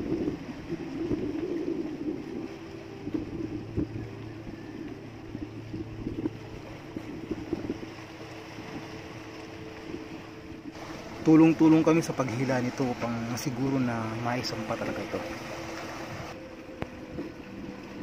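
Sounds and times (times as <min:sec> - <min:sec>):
small boat engine humming: 0:00.0 - 0:18.0.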